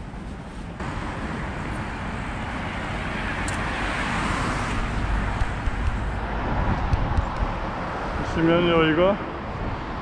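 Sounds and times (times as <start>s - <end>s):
low traffic rumble: 0.0s - 10.0s
car passing: 0.8s - 10.0s.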